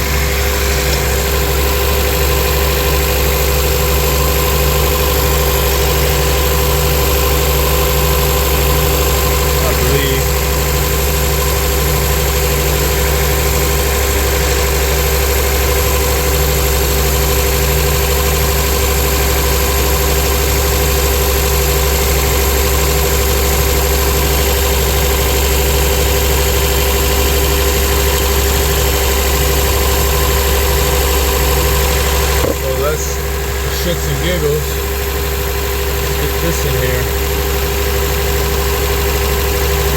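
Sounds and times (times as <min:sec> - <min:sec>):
rough car engine idling: 0:00.0 - 0:39.9.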